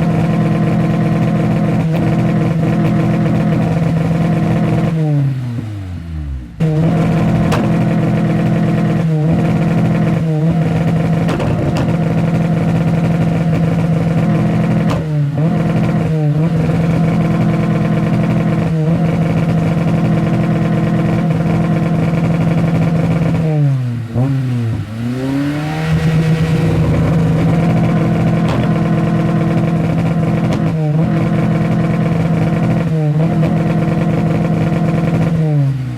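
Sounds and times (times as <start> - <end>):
car engine revving high: 0.0 - 35.9.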